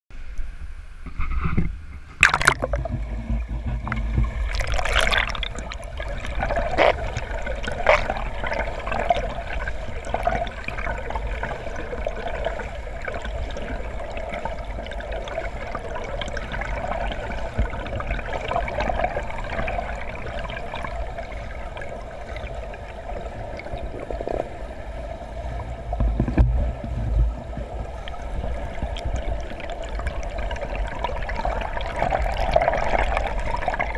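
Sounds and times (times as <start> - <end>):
underwater gurgling rushing water: 2.1 - 33.9
water splashes: 2.1 - 33.9.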